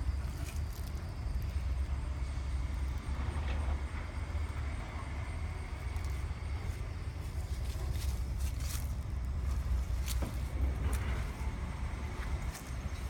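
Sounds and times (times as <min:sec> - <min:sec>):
motor vehicle running: 0:00.0 - 0:13.0.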